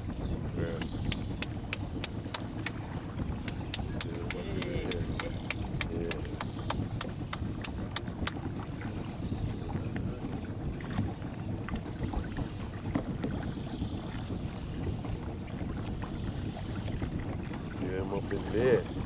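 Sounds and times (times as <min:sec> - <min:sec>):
boat engine rumble: 0:00.0 - 0:19.0
water noise: 0:00.0 - 0:19.0.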